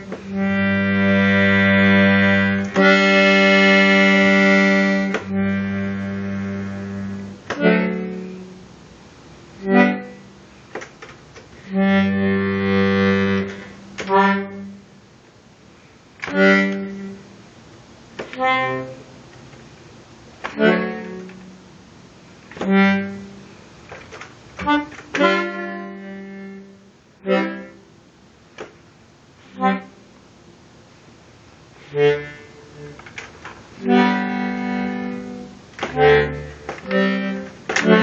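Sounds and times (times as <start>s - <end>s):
button accordion chords: 0.0s - 15.0s, 16.1s - 19.7s, 20.3s - 28.8s, 29.4s - 30.3s, 31.8s - 38.0s.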